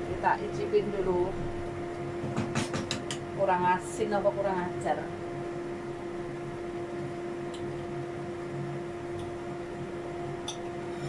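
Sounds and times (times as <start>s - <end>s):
kitchen fan humming: 0.0s - 11.0s.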